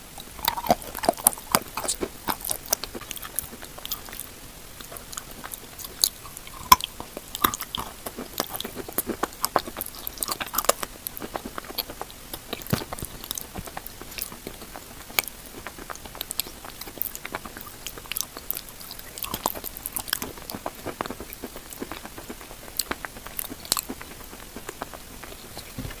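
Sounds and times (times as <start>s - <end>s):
chalk crunching chewing: 0.0s - 26.0s
wet creamy chewing: 0.0s - 26.0s.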